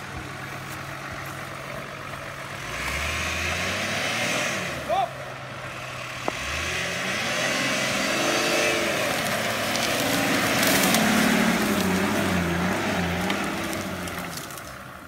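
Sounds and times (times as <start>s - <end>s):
off-road engine revving: 0.0s - 15.0s
vegetation crackling against vehicle: 0.0s - 15.0s.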